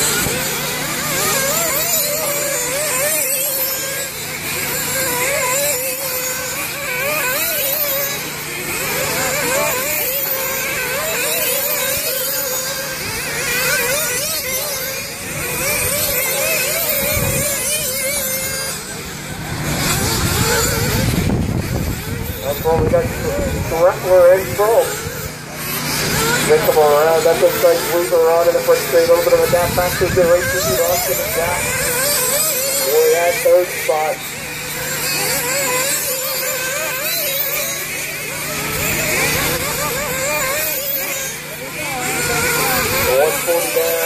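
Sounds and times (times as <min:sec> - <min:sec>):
rc buggy engines whining: 0:00.0 - 0:44.0.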